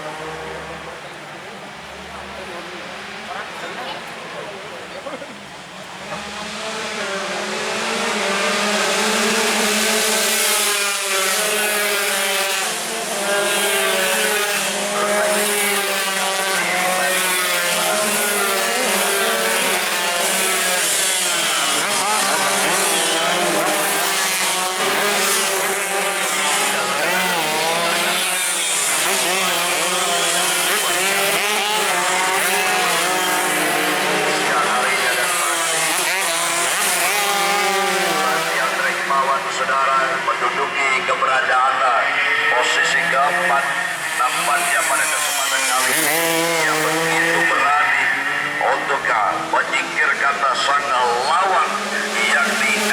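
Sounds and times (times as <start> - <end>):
motorcycles racing at high revs: 0.0 - 52.9.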